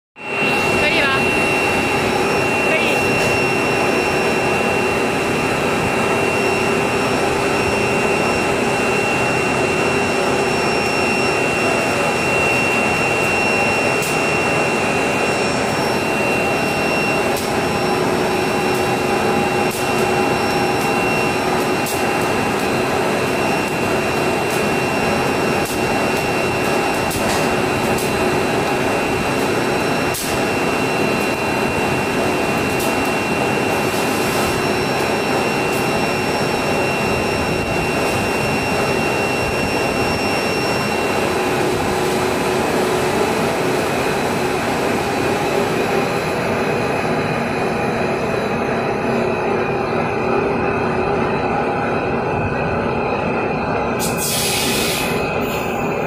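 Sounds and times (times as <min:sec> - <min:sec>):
machine noise with high whine: 0:00.2 - 0:56.0.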